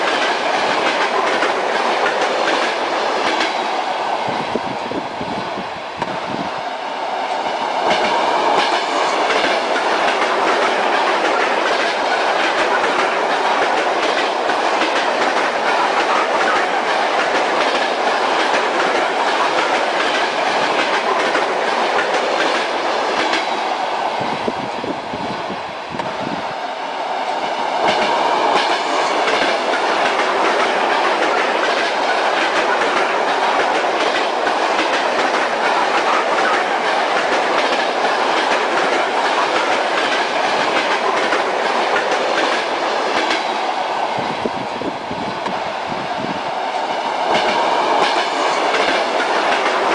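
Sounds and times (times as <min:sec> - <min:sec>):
train wheels clattering: 0:00.0 - 0:03.8, 0:07.4 - 0:23.6, 0:27.3 - 0:44.6, 0:46.5 - 0:49.9
railway carriage rumble: 0:00.0 - 0:49.9.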